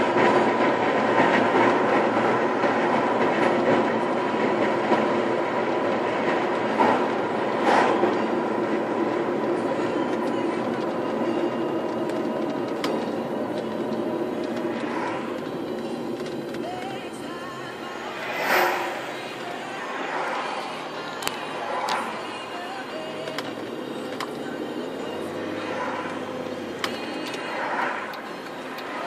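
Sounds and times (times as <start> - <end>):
faint engine hum: 2.4 - 29.0.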